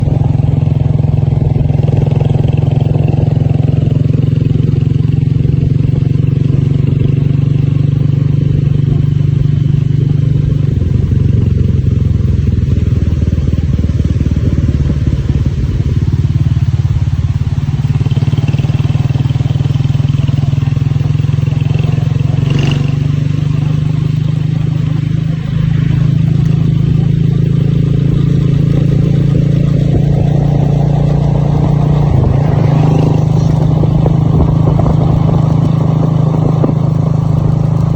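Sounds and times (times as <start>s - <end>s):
vehicle engine droning: 0.0s - 37.9s.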